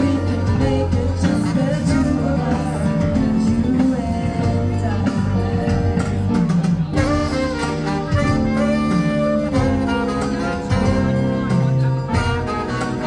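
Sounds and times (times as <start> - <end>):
live band playing instrumental: 0.0 - 13.0.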